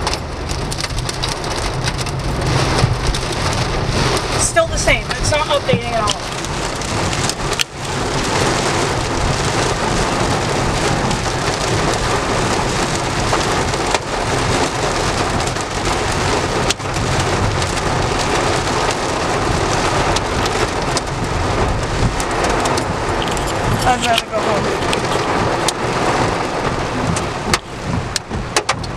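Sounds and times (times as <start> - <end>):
heavy rain falling on a car: 0.0 - 28.9.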